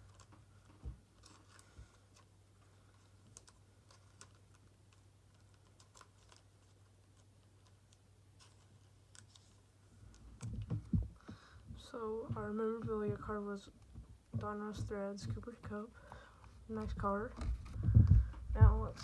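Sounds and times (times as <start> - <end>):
plastic card sleeve handled: 0.0 - 11.3, 12.8 - 19.0
low steady hum: 0.0 - 19.0.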